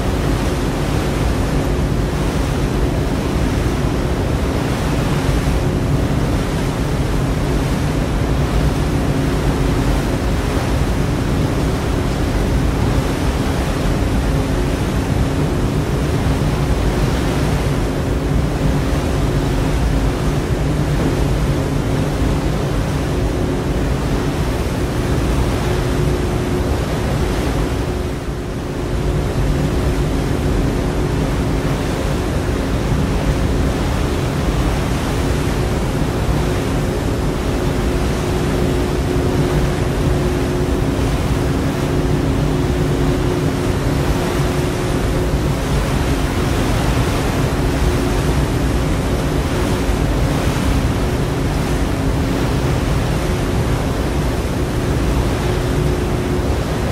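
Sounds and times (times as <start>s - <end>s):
low engine hum: 0.0s - 56.9s
water rushing: 0.0s - 56.9s
wind: 0.0s - 56.9s.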